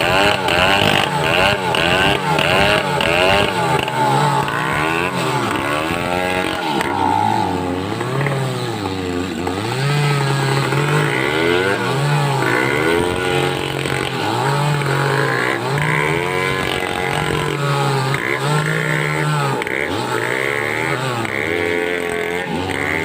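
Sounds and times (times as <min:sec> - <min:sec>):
chainsaw sawing timber: 0:00.0 - 0:23.0.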